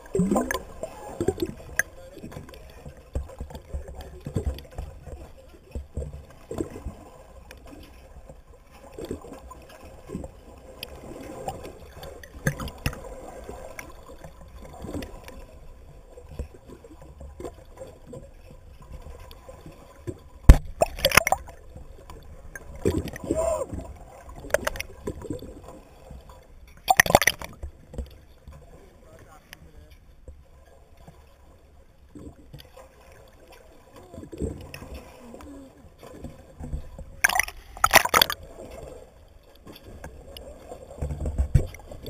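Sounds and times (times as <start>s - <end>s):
soft knocks underwater: 0.0s - 13.1s, 16.2s - 28.7s, 32.2s - 38.8s, 39.6s - 42.0s
underwater gurgles and bubbles: 0.0s - 42.0s.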